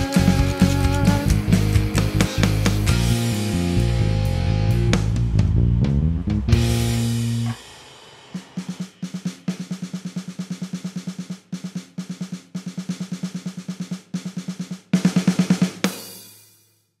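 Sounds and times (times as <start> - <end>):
rapid drum roll music: 0.0 - 16.8.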